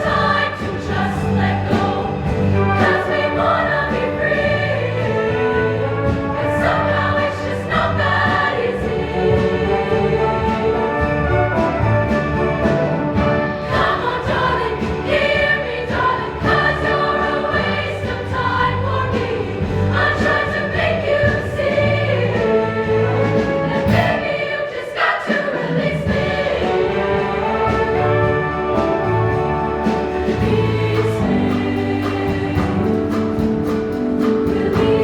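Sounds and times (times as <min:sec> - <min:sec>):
band accompanying: 0:00.0 - 0:35.0
choir singing in parts: 0:00.0 - 0:35.0.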